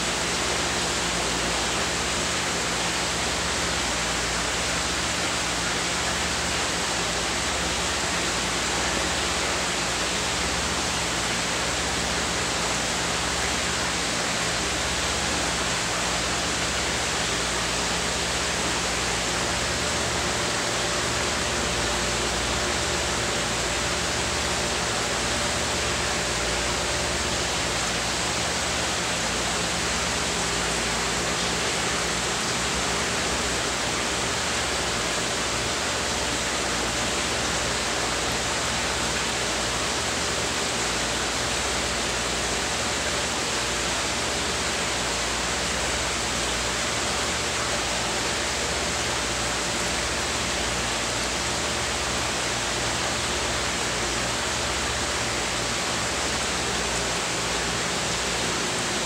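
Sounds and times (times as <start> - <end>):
steady hiss-like noise: 0.0 - 59.0.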